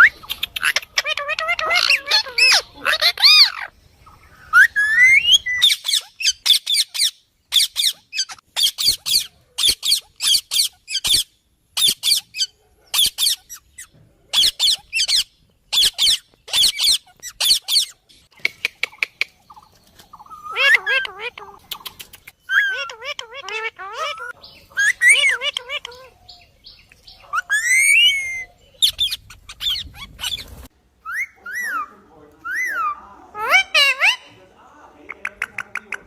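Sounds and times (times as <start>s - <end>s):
parrot squawks: 0.0s - 3.7s, 4.5s - 18.0s, 20.2s - 21.6s, 22.5s - 26.2s, 27.3s - 34.3s.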